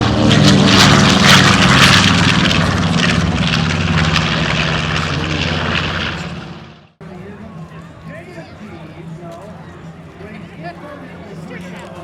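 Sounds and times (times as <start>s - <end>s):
propeller airplane flying past: 0.0s - 11.8s.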